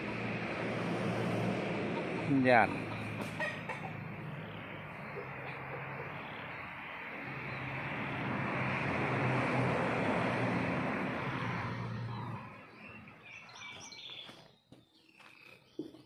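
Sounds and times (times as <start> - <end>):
birds chirping: 0.0 - 8.4, 11.0 - 16.0
motor vehicle passing: 0.0 - 14.4.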